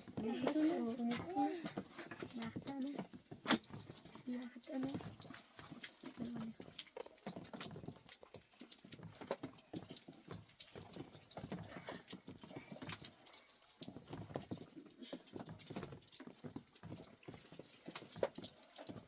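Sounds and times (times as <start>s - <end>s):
water dripping: 0.0s - 19.0s.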